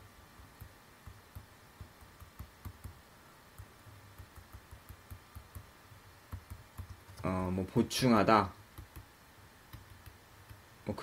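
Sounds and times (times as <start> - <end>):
stylus tapping on tablet: 0.4 - 7.4, 8.7 - 10.7.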